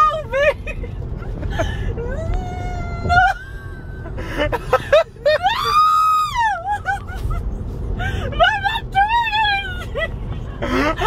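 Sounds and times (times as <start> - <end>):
tyre and road noise in car: 0.0 - 11.0
woman laughing and squealing: 0.2 - 7.6, 8.2 - 11.0.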